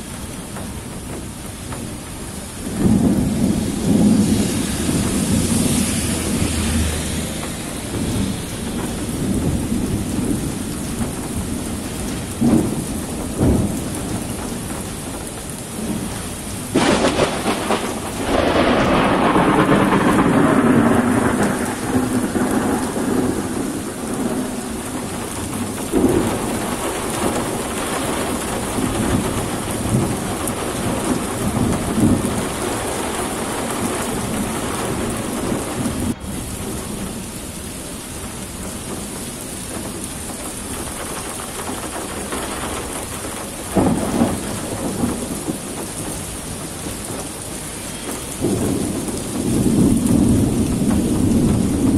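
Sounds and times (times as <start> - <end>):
heavy rain pouring: 0.0 - 51.9
thunder clap and rumble: 0.0 - 51.9.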